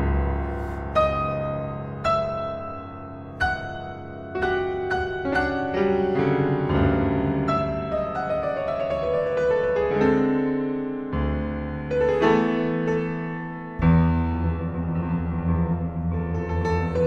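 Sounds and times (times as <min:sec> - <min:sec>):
solo grand piano: 0:00.0 - 0:17.0.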